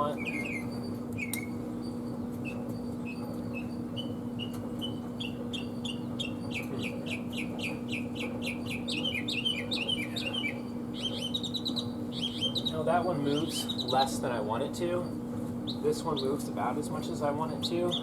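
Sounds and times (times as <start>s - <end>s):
bird chirping and trilling: 0.0s - 16.5s
steady low hum: 0.0s - 18.0s.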